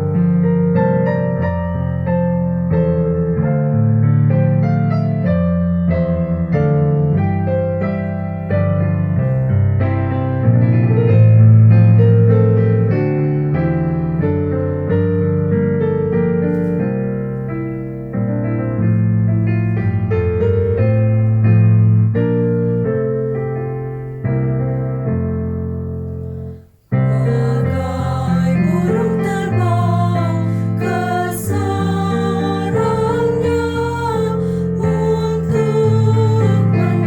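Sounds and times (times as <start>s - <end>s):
piano playing hymn chords: 0.0s - 37.0s.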